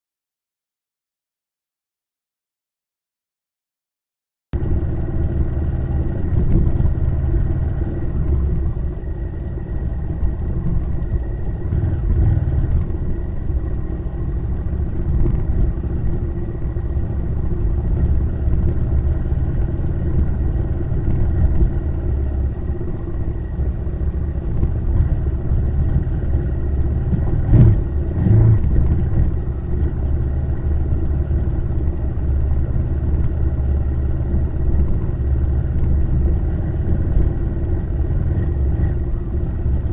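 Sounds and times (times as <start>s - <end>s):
road and wind rumble: 4.6s - 39.9s
vehicle engine hum: 4.6s - 39.9s.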